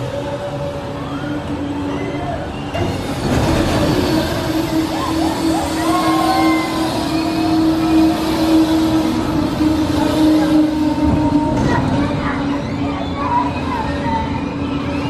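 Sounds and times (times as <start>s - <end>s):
rushing noise: 0.0s - 12.8s
fairground ride mechanical hum: 0.0s - 15.0s.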